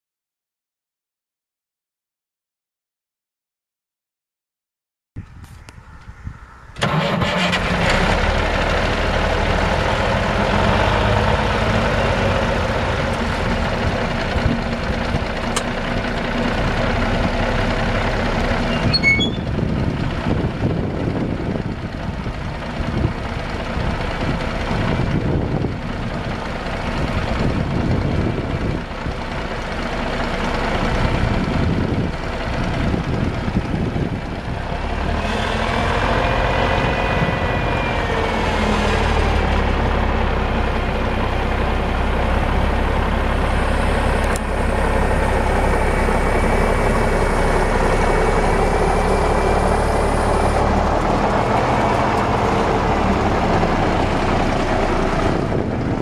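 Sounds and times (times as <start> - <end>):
diesel truck engine running: 5.6 - 56.0.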